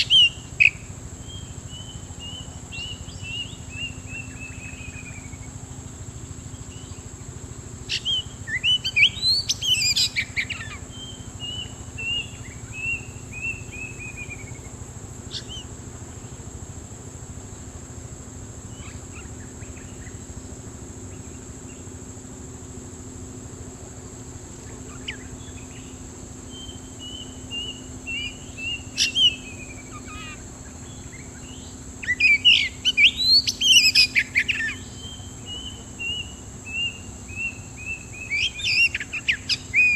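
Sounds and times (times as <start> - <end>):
bird song: 0.0 - 39.9
steady high-pitched whine: 0.0 - 39.9.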